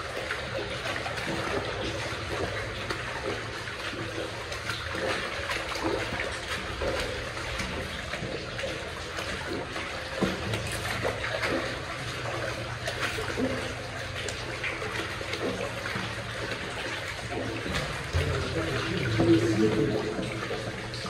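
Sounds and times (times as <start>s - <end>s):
shallow water trickling: 0.0s - 21.0s.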